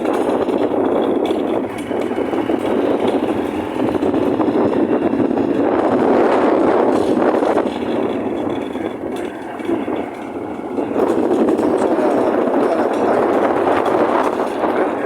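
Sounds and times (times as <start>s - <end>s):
wind and motorcycle road noise: 0.0s - 15.0s
wind buffeting microphone: 0.0s - 15.0s.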